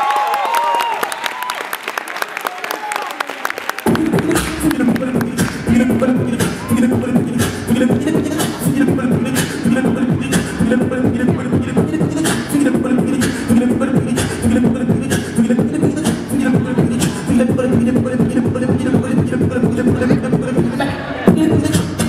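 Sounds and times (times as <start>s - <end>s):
amplified beatboxing: 3.8s - 22.0s.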